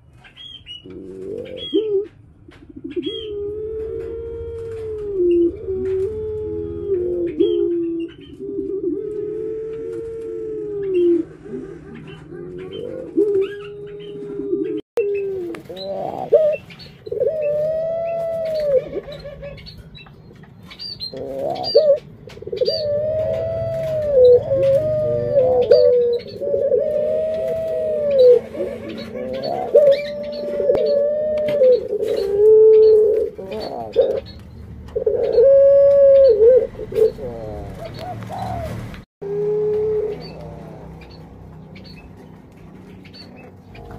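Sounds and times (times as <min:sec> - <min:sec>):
doves cooing: 0:00.8 - 0:43.9.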